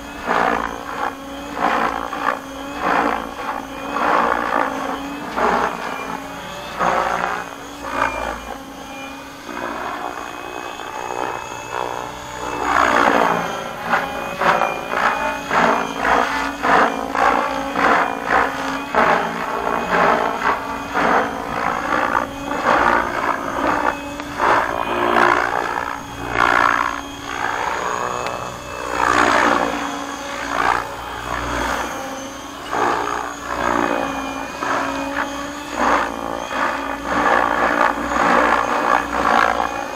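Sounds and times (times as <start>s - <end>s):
helicopter high whine: 0.0s - 39.9s
rotor blades whooshing chop: 0.1s - 39.6s.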